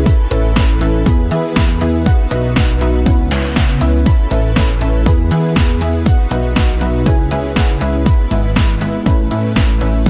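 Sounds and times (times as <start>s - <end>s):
kick drum beat: 0.0s - 10.0s.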